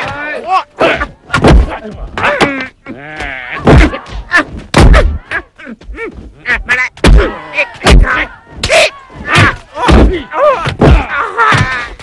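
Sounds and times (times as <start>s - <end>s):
fighters shouting and grunting: 0.0s - 12.0s
punches landing thuds: 0.8s - 12.0s.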